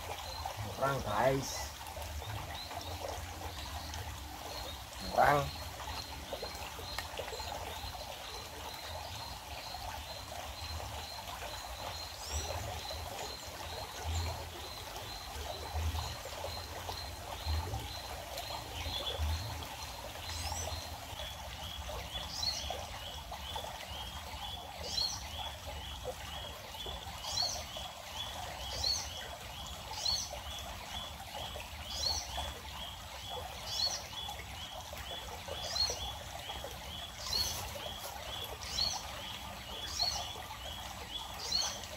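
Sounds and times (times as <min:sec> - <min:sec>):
water trickling: 0:00.0 - 0:41.9.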